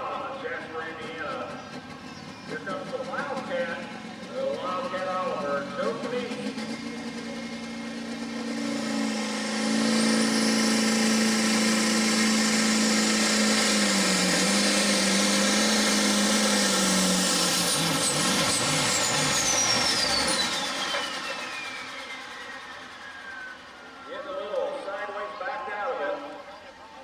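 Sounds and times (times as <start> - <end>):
diesel engine running hard: 0.0 - 27.0
high turbo whine: 0.0 - 27.0.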